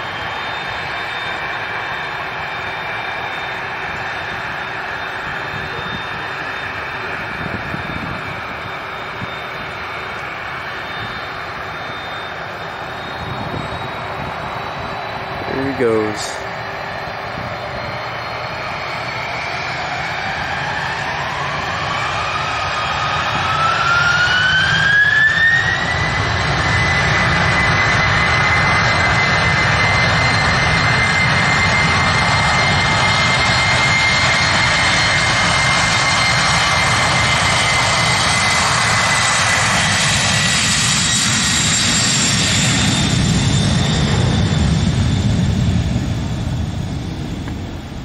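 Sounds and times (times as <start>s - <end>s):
jet engines high whine: 0.0s - 48.0s.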